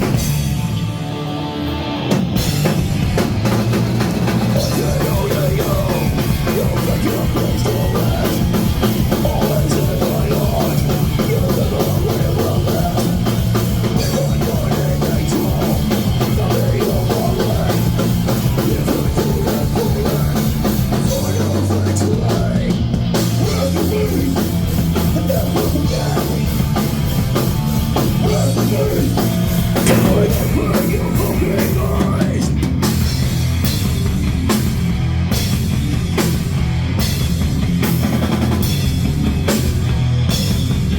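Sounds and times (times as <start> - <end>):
pounding drum kit: 0.0 - 0.8, 2.0 - 40.9
distorted guitars: 0.0 - 40.9
hardcore punk music: 0.0 - 40.9.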